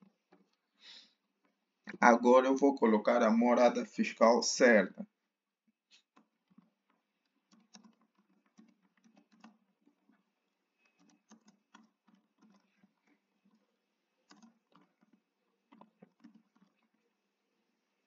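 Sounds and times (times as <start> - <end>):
faint keyboard typing: 0.0 - 4.2, 5.9 - 18.0.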